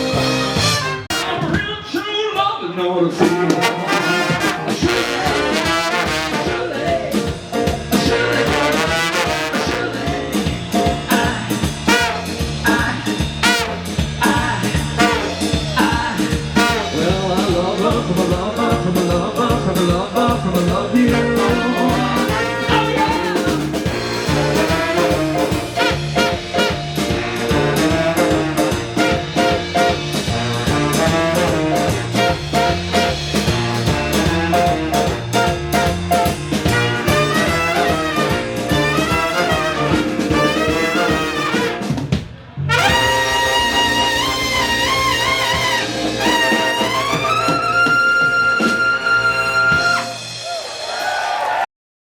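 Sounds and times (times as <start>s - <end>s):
brass band playing: 0.0s - 1.8s, 3.2s - 51.4s.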